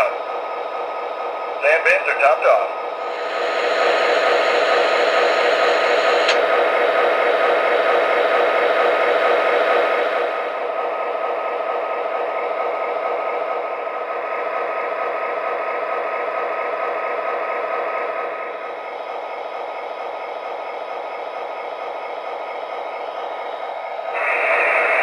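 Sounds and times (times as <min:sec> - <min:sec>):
diesel locomotive idling from speaker: 0:00.0 - 0:25.0.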